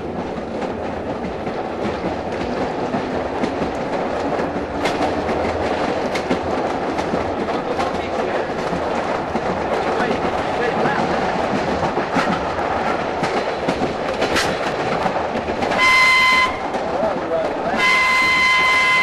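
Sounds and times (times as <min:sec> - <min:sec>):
rumble of moving railcar: 0:00.0 - 0:19.0
wheels clicking over rail joints: 0:00.0 - 0:19.0.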